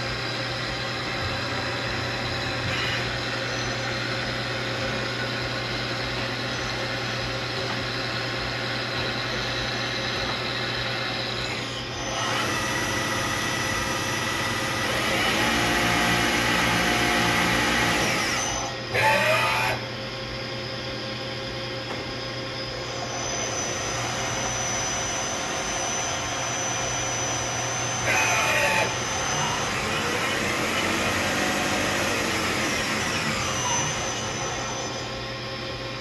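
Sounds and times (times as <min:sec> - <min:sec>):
lathe humming and whining: 0:00.0 - 0:36.0.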